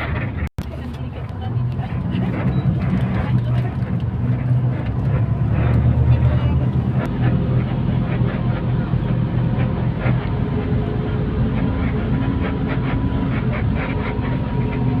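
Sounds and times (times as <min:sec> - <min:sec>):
faint voices: 0:00.0 - 0:15.0
low engine drone: 0:00.0 - 0:15.0.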